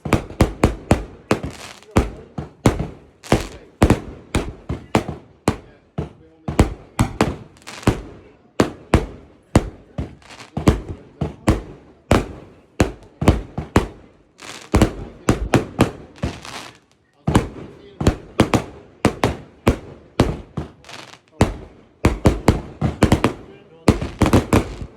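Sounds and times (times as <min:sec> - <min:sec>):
firework cakes firing sharp bangs: 0:00.0 - 0:24.9.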